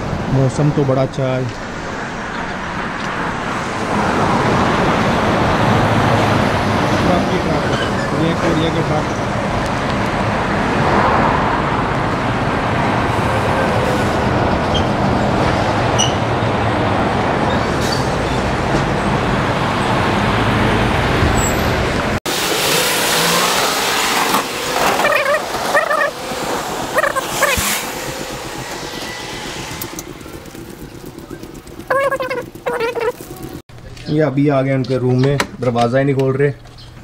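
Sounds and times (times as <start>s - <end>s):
heavy trucks passing: 0.0s - 33.6s.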